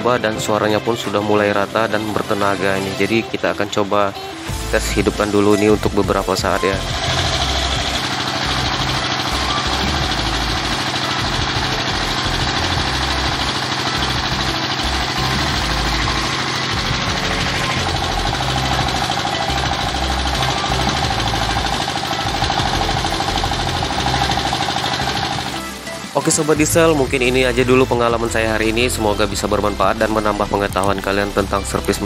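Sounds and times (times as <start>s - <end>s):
higher steady hum: 0.0s - 32.0s
diesel engine running: 0.8s - 32.0s.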